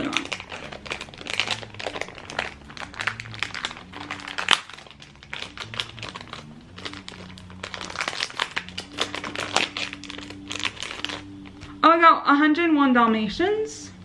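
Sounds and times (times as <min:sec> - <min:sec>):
wrapper crumpling and tearing: 0:00.0 - 0:11.8.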